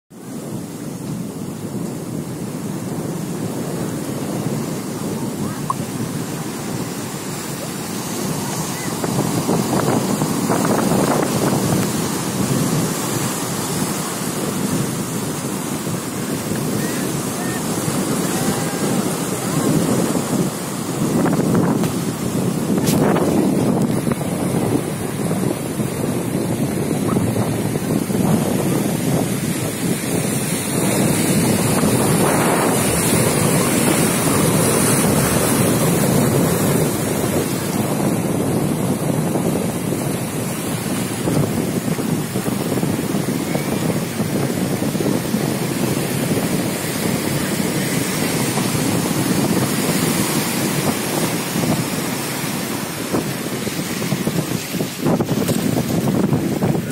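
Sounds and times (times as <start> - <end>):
wind buffeting microphone: 0.1 - 56.9
waves breaking over rocks: 0.4 - 56.9.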